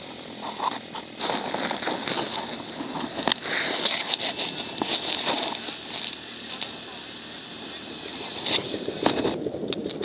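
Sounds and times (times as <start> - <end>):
crackling rush of driving noise: 0.0 - 10.0.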